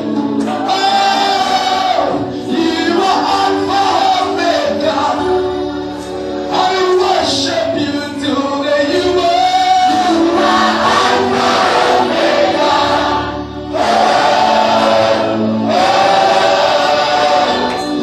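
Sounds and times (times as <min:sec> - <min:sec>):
choir singing: 0:00.0 - 0:07.8, 0:09.1 - 0:18.0
instrumental backing: 0:00.0 - 0:18.0.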